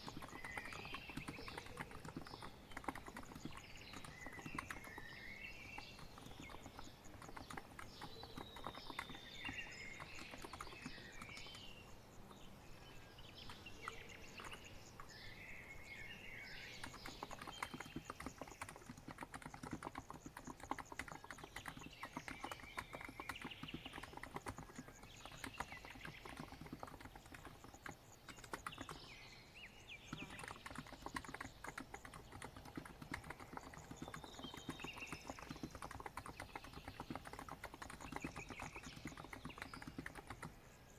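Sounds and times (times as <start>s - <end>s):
faint birds chirping: 0.0s - 40.9s.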